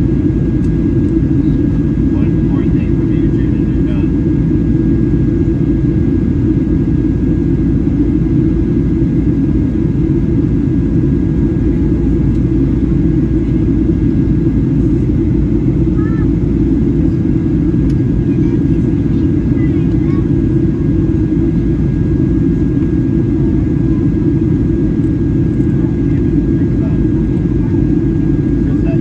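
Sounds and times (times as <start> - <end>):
jet engines and rushing air: 0.0 - 29.0.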